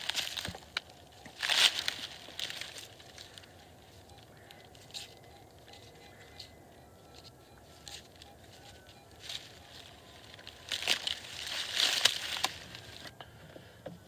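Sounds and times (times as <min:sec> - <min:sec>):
scuffs of soil and dry leaves: 0:00.0 - 0:06.3, 0:07.6 - 0:13.1
metal detector tones: 0:00.0 - 0:13.2.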